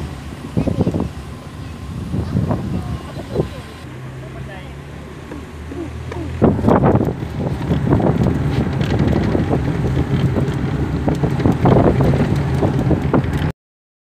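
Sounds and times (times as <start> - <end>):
wind buffeting microphone: 0.0 - 4.2, 5.2 - 13.5.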